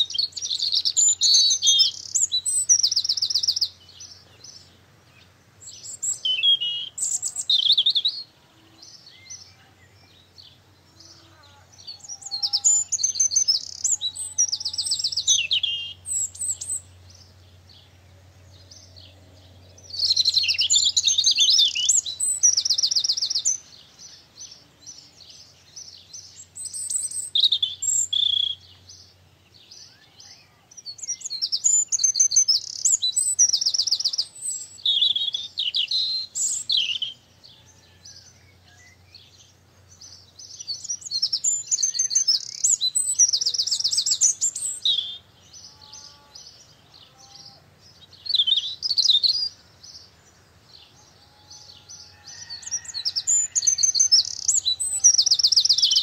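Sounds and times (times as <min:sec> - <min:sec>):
songbirds singing trills: 0:00.0 - 0:56.0.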